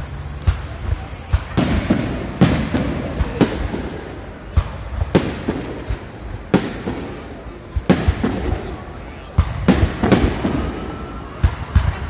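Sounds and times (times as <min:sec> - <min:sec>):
fireworks bangs with echoing rumble: 0:00.0 - 0:12.0.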